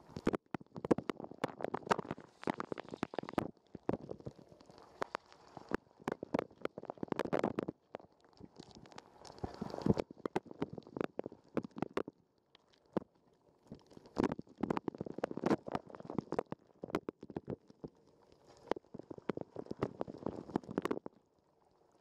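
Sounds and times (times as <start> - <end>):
water gurgling: 0.0 - 22.0.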